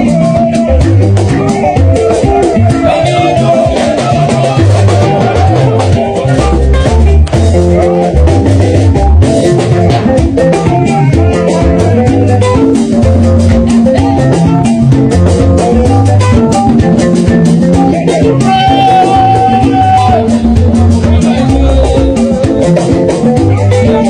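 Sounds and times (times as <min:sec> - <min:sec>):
upbeat dance-band music: 0:00.0 - 0:24.0.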